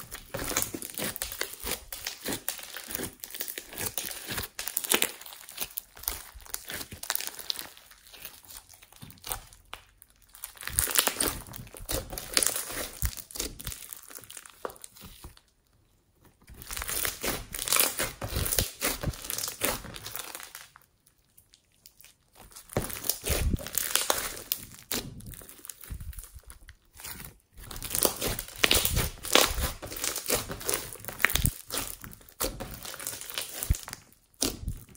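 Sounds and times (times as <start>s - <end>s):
slime popping and crackling: 0.0s - 15.6s, 16.4s - 34.9s.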